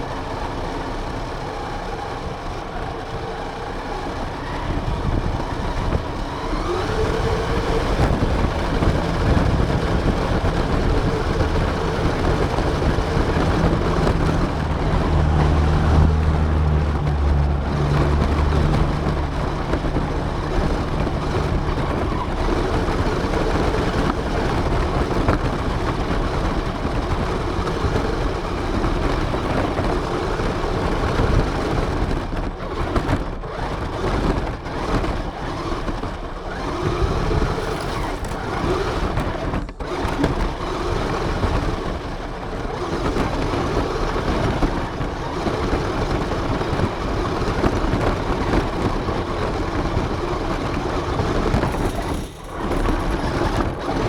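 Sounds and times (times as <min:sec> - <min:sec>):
toy car motor and wheel noise: 0:00.0 - 0:54.0.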